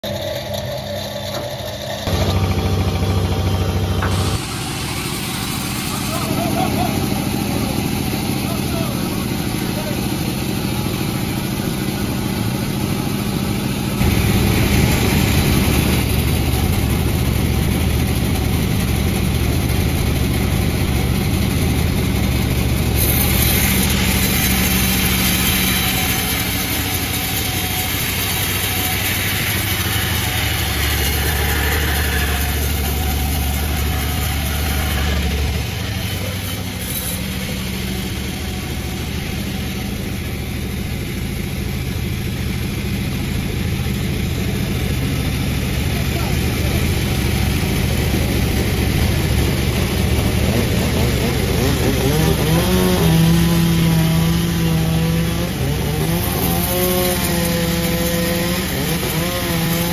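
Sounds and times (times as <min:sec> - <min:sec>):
chainsaw engine running: 0:00.0 - 0:59.9.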